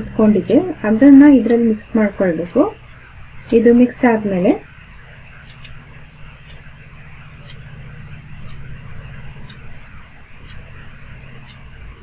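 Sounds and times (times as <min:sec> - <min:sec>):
clock ticking: 0:00.0 - 0:12.0
low hum: 0:00.0 - 0:12.0.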